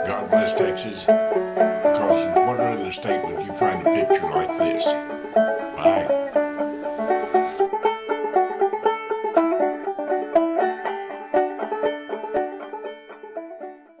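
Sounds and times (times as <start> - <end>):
plucked-string instrumental music: 0.0 - 14.0.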